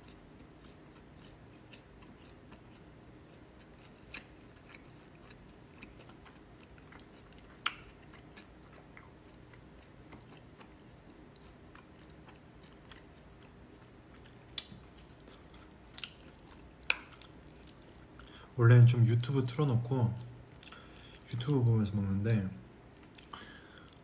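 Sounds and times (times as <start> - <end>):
person chewing noodles: 0.0 - 18.6, 20.3 - 21.3, 22.6 - 24.0.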